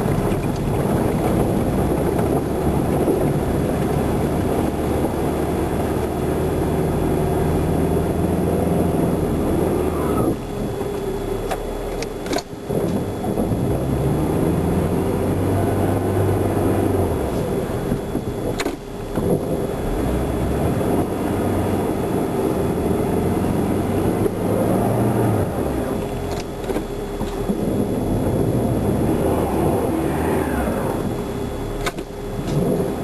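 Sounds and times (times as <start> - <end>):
car engine accelerating: 0.0 - 11.1, 11.9 - 33.0
road noise: 0.0 - 33.0.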